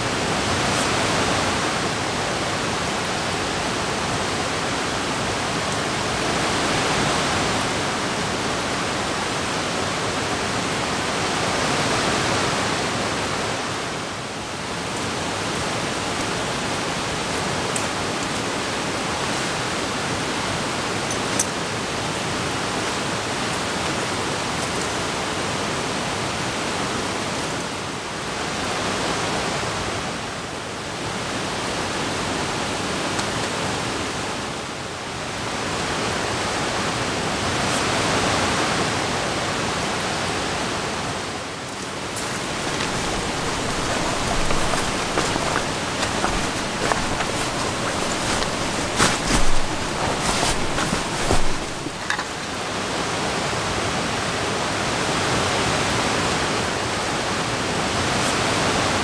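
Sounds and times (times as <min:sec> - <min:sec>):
rain falling on trees: 0:00.0 - 0:59.0.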